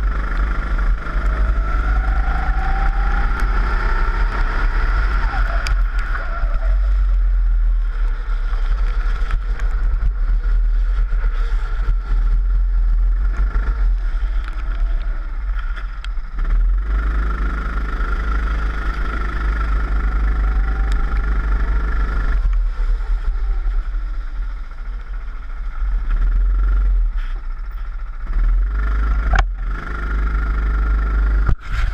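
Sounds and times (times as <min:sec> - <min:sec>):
wind rumble on microphone: 0:00.0 - 0:29.7, 0:31.2 - 0:31.9
kart engine revving: 0:00.0 - 0:31.9.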